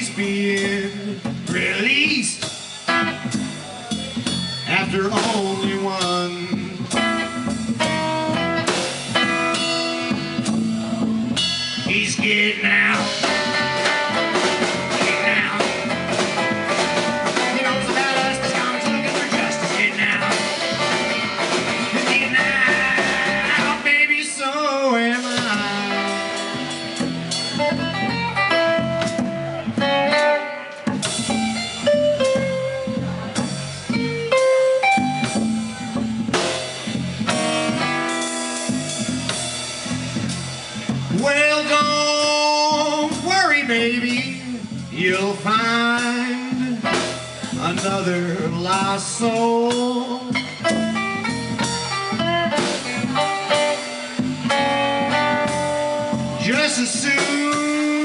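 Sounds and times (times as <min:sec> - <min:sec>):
drum kit: 0:00.0 - 0:58.0
rockabilly band playing: 0:00.0 - 0:58.0
upright bass: 0:00.0 - 0:58.0.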